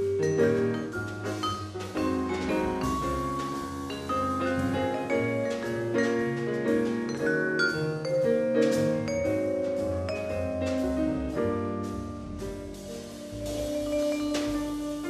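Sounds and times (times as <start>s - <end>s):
vibraphone jazz ballad: 0.0s - 15.0s.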